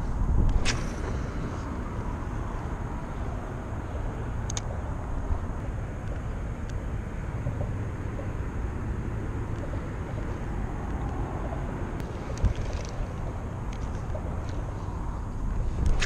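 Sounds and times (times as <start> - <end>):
freeway traffic rumble: 0.0 - 16.0.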